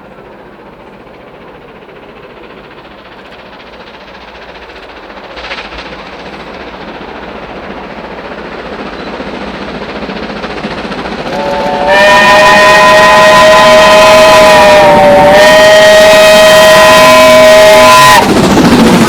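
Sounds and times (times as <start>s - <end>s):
steam train approaching on rails: 0.0s - 19.0s.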